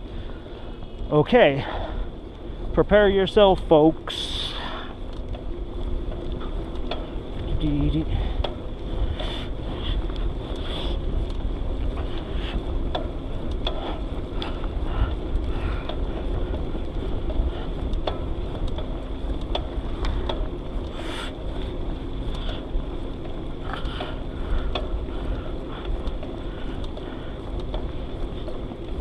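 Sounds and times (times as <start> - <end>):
bicycle clicks and rattles: 0.0 - 29.0
wind buffeting microphone: 0.0 - 29.0.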